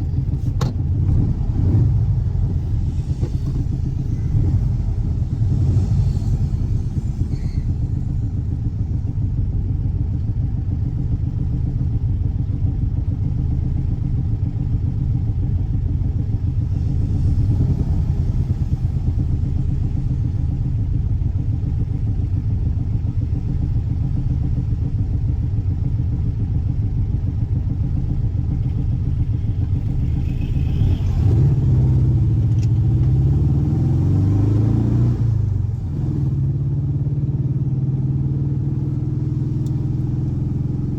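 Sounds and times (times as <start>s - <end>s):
boxer engine running: 0.0s - 37.4s.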